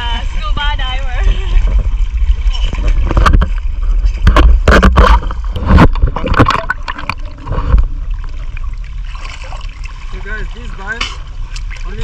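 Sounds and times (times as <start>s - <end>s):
low rumble on microphone: 0.0s - 12.0s
sea water splashing: 0.0s - 12.0s.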